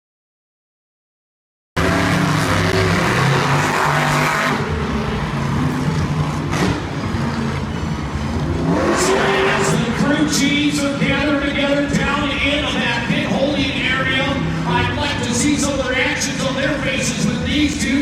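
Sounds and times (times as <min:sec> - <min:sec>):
monster truck engines revving: 0:01.8 - 0:18.0.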